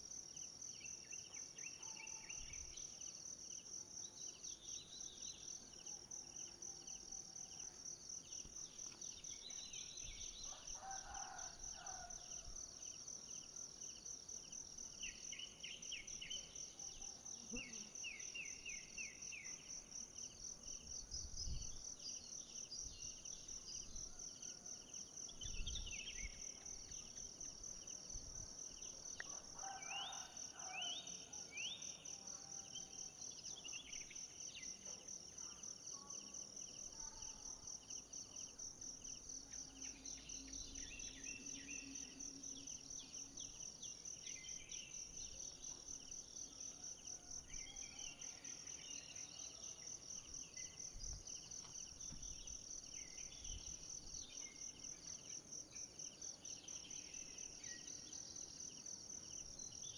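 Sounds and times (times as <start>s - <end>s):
insects chirping: 0.0s - 59.9s
insects trilling: 3.9s - 59.9s.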